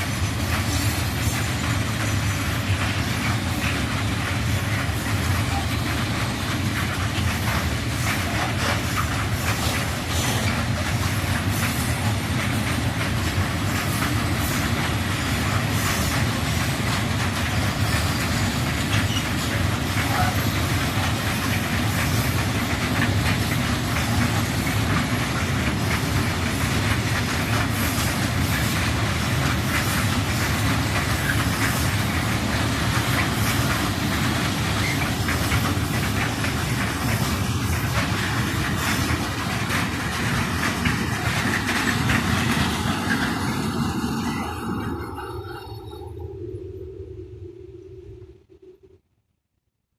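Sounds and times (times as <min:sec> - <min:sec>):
wheels clattering over rail joints: 0:00.0 - 0:45.4
freight train wheels rumbling: 0:00.0 - 0:47.0.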